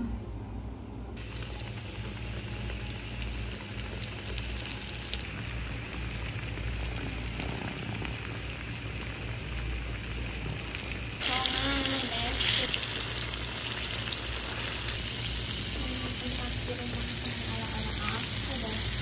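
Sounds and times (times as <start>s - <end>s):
chicken deep-frying in oil: 1.2s - 19.0s.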